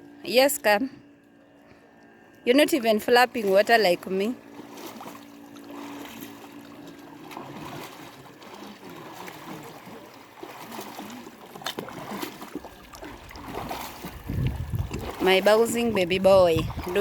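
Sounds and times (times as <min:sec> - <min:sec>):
water sloshing and trickling: 0:01.0 - 0:17.0.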